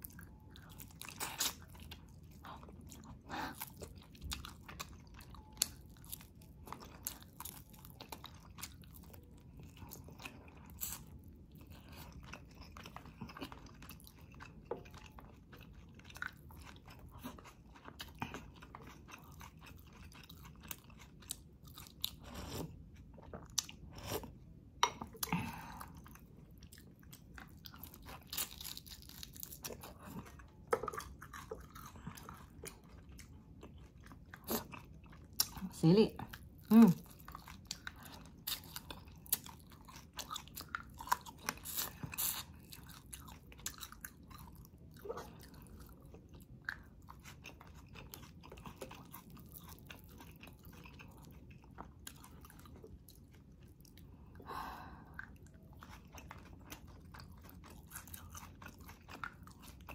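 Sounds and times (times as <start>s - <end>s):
person chewing: 0.0s - 35.7s, 36.3s - 59.9s.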